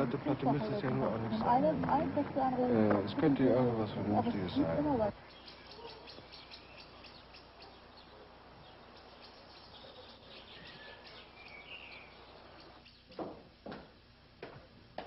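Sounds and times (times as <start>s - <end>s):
small birds chirping: 0.0s - 13.4s
outdoor background hiss: 0.0s - 15.0s.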